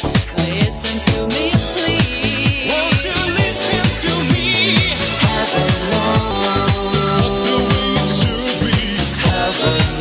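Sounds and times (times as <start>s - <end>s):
dance music: 0.0s - 10.0s
steady kick-drum beat: 0.0s - 10.0s.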